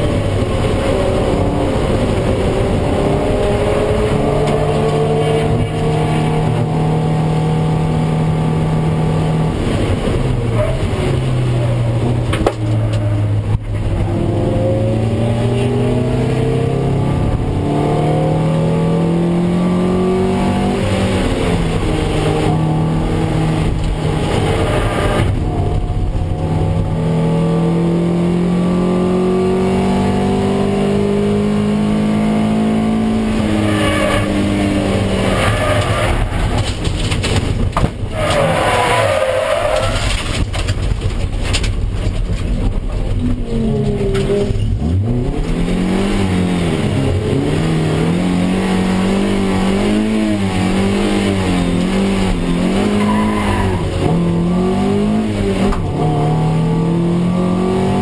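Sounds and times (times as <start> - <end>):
race car engine accelerating: 0.0 - 42.0, 42.6 - 58.0.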